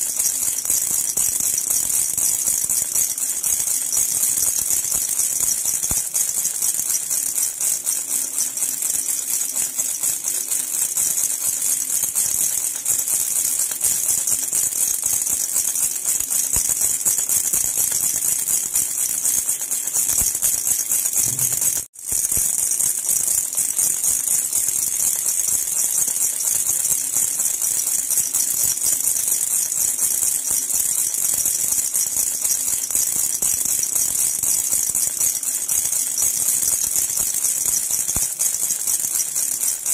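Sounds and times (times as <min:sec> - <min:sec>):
metal baby rattle jingling: 0:00.0 - 0:39.9.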